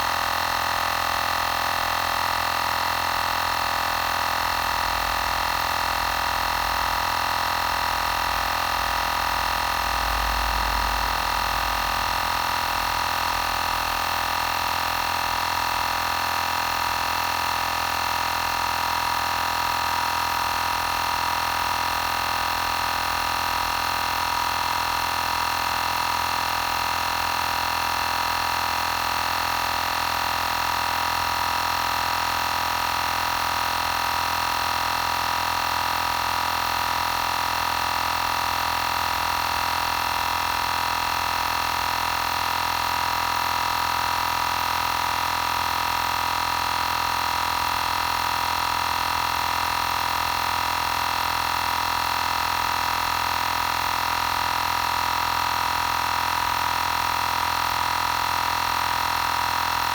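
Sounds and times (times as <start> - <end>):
air compressor whine: 0.0 - 59.9.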